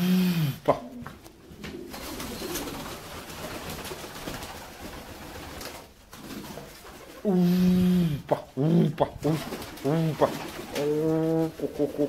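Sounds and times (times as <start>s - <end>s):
pigeons cooing softly: 0.0s - 5.5s, 6.2s - 12.0s.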